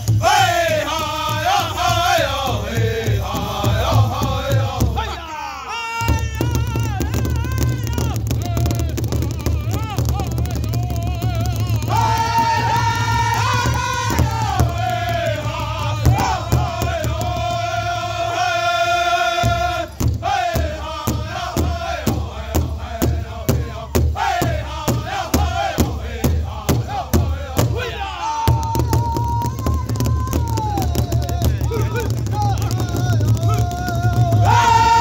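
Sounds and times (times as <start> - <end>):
large drum beating: 0.0 - 5.2, 6.0 - 18.4, 19.4 - 35.0
men singing in high voices: 0.0 - 35.0.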